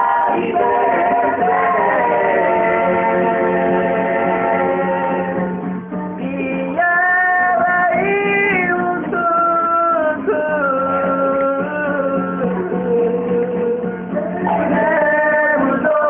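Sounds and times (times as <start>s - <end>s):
instrumental backing: 0.0s - 16.0s.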